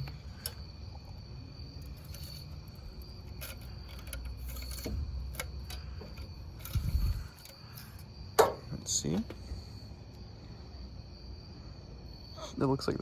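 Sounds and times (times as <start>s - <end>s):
low background rumble: 0.0s - 12.3s
insects chirping: 0.0s - 13.0s.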